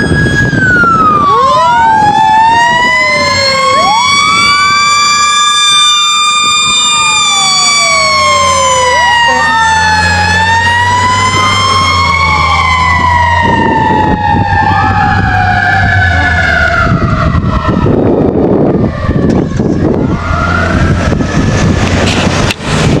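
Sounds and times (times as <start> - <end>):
fire engine rumbling: 0.0 - 23.0
road noise: 0.0 - 23.0
siren wailing: 0.0 - 23.0.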